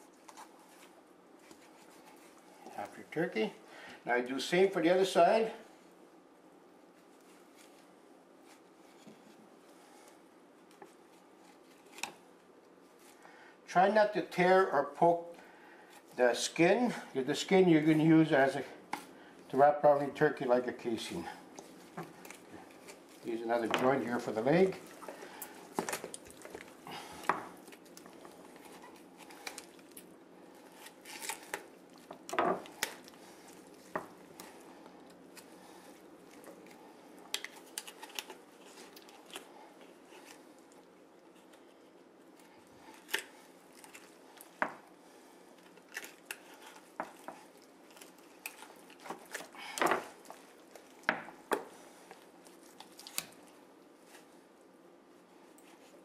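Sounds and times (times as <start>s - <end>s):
meat and skin being worked: 0.0s - 5.0s, 6.8s - 56.0s.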